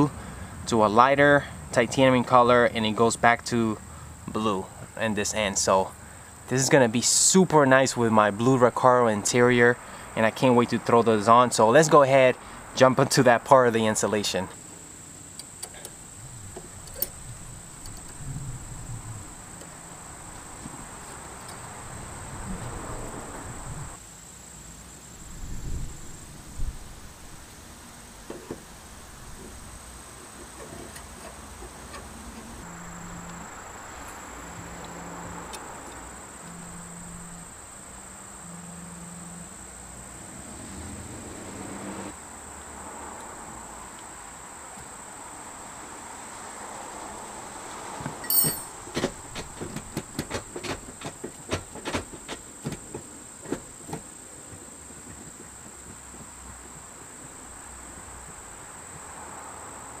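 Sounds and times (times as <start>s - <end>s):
crickets trilling: 0.0s - 60.0s.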